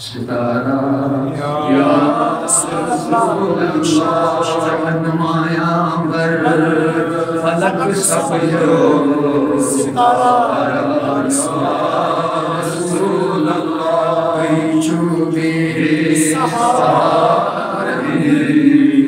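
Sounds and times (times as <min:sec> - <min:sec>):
old man chanting: 0:00.0 - 0:18.9.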